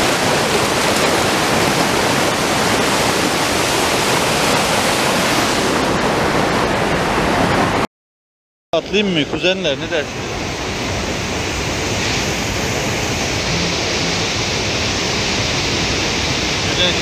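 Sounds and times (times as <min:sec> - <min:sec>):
waterfall roaring: 0:00.0 - 0:07.8, 0:08.8 - 0:17.0.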